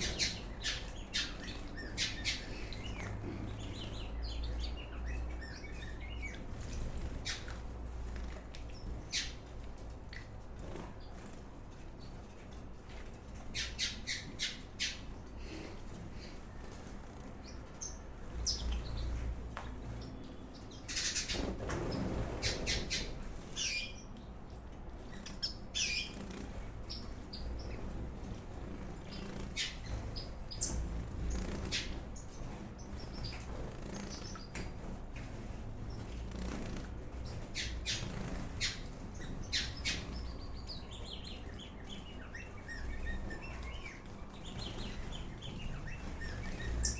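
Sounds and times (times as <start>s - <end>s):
birds squawking and chirping: 0.0s - 46.9s.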